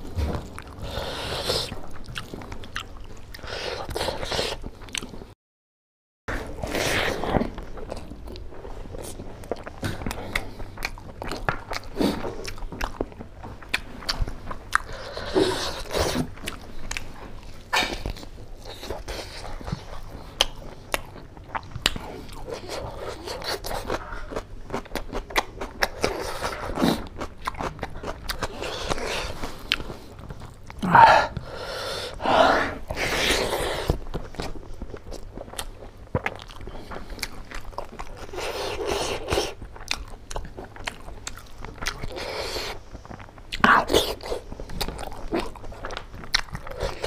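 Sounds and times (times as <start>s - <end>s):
person chewing wetly: 0.0s - 5.3s, 6.4s - 47.0s.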